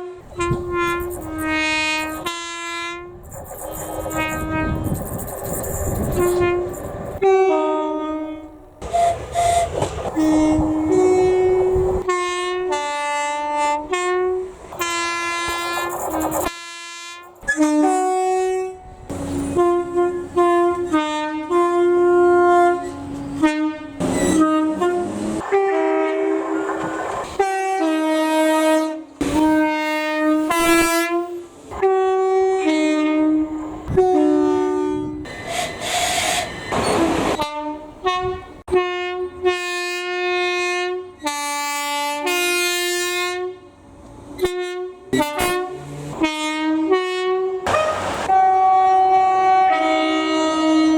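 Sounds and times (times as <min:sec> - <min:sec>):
train horn blasts: 0:00.0 - 0:05.1, 0:05.7 - 0:43.8, 0:44.4 - 0:50.9.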